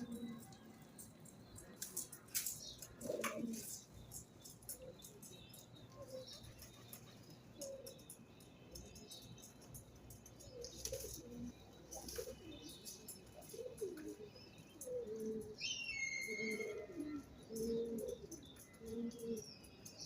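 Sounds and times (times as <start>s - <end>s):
pigeons cooing: 0.0s - 0.8s, 1.6s - 8.1s, 10.4s - 19.6s
bird chirps and ticks: 0.0s - 20.0s.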